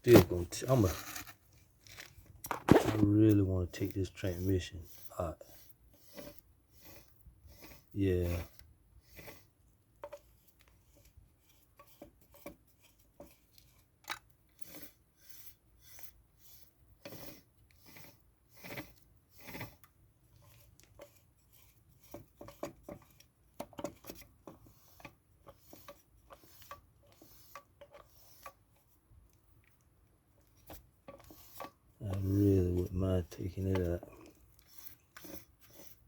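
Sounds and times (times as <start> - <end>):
parts scraping and clicking: 0.0 - 36.0.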